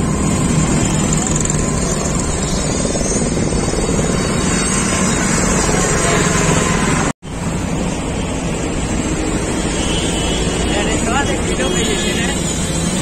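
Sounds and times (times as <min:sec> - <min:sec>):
road traffic roar: 0:00.0 - 0:13.0.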